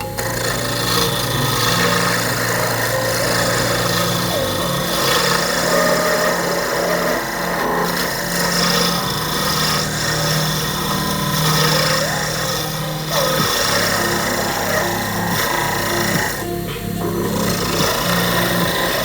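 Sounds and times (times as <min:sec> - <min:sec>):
material rasping: 0:00.0 - 0:19.0
power tool motor hum: 0:00.0 - 0:19.0.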